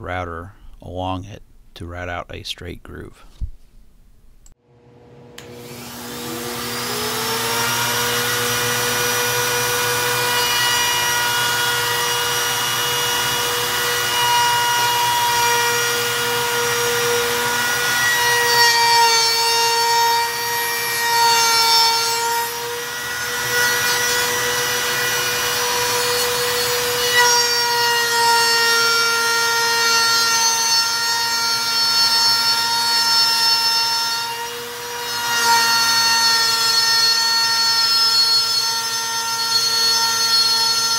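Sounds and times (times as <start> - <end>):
router whining: 5.3 - 40.9.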